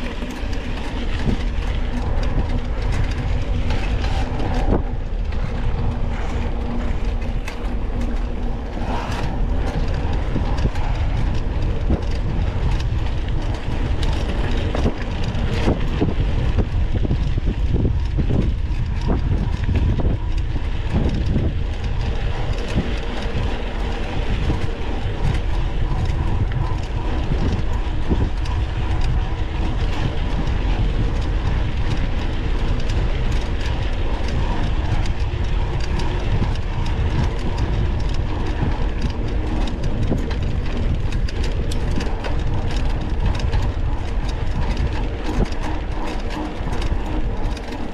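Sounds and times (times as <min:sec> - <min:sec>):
bike rattling: 0:00.0 - 0:47.9.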